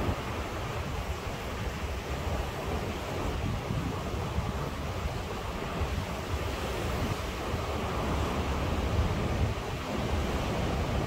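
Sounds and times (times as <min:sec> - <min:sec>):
ocean surf washing ashore: 0:00.0 - 0:11.0
wind buffeting microphone: 0:00.0 - 0:11.0.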